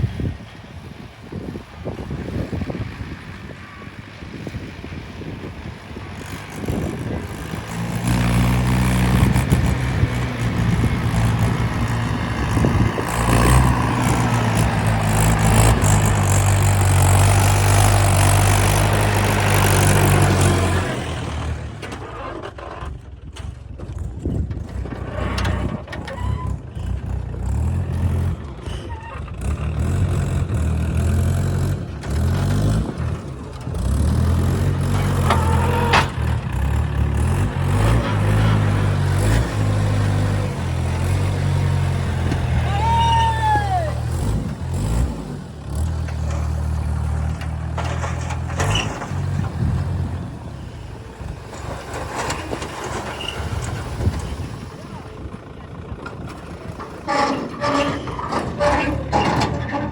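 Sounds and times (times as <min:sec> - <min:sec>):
heavy diesel engine revving under load: 0:01.3 - 0:21.8, 0:24.3 - 0:59.9.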